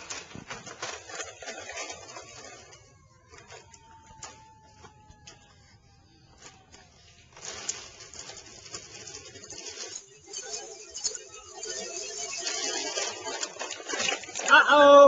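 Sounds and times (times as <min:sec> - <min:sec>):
toy wheels crunching over ground: 0:00.0 - 0:15.0.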